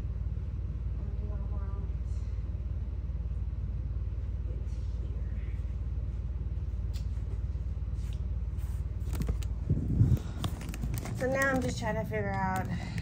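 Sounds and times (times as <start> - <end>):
fluttering machine hum: 0.0 - 13.0.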